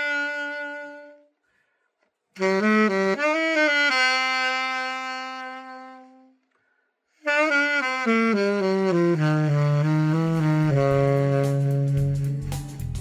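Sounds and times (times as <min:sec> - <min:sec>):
alto saxophone playing: 0:00.0 - 0:13.0.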